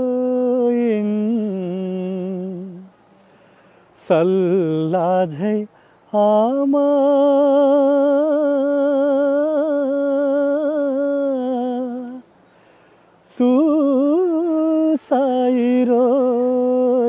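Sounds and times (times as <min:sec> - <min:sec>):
person singing unaccompanied: 0:00.0 - 0:17.0.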